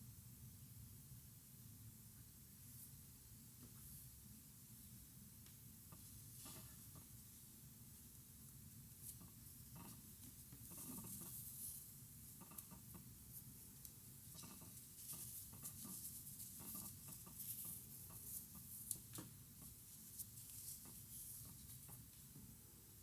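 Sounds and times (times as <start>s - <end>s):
quiet hiss: 0.0s - 23.0s.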